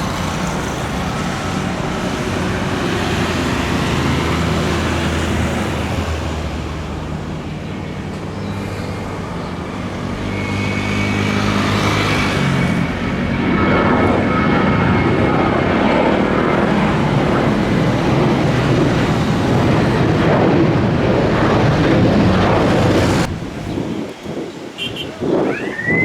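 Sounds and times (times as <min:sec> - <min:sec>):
airliner engines at take-off power: 0:00.0 - 0:26.0.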